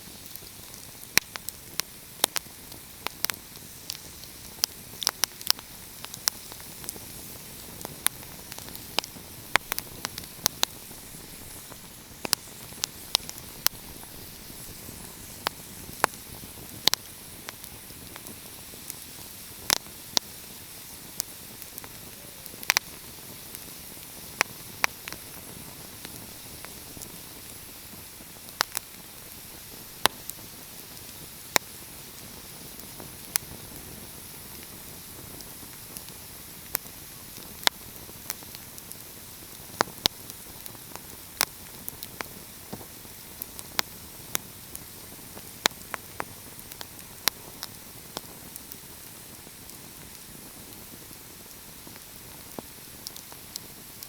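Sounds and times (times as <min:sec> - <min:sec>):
fire crackles and pops: 0:00.0 - 0:54.0
wood fire hissing: 0:00.0 - 0:54.0.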